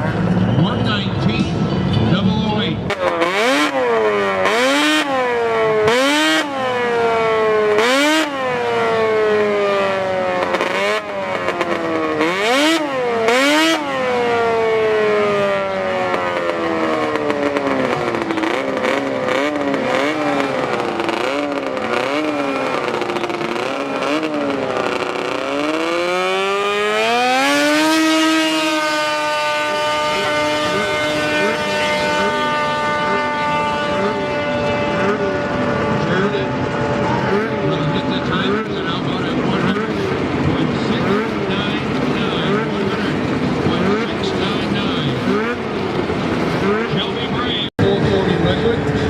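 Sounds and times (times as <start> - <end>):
snowmobile engine revving: 0.0 - 49.0.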